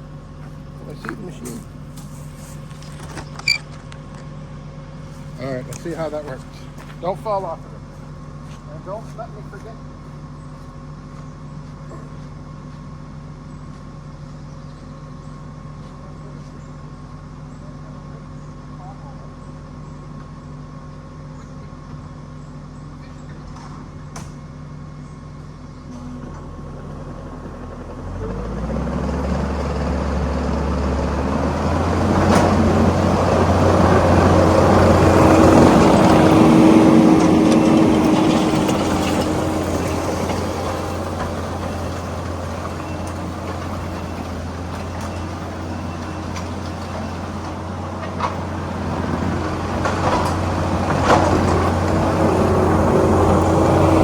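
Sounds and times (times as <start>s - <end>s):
tractor diesel engine: 0.0s - 54.0s.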